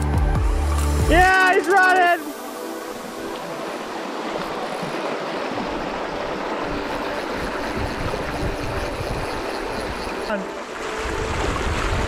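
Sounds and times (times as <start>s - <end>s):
river water rushing: 1.0s - 12.0s.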